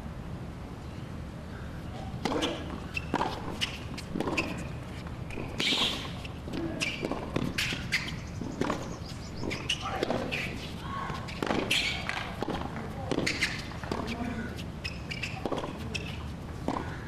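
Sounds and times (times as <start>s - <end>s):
racket striking tennis ball: 2.0s - 17.0s
ball bouncing: 2.2s - 14.4s, 15.1s - 17.0s
footsteps on court: 2.2s - 17.0s.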